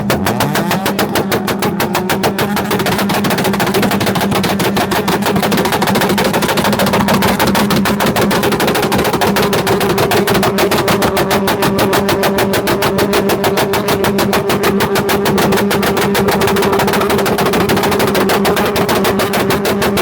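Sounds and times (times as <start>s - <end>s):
car engine running: 0.0s - 20.0s
exhaust crackling and banging: 0.0s - 20.0s.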